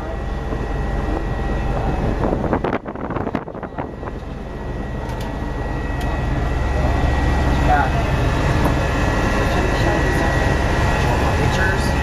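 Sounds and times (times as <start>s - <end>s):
airship engines droning: 0.0s - 12.0s.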